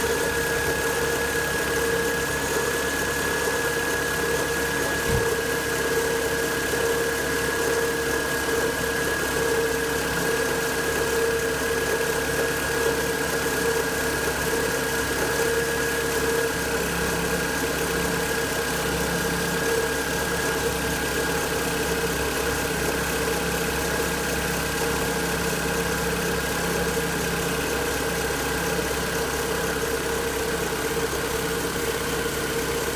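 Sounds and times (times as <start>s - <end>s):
engine idling: 0.0s - 32.9s.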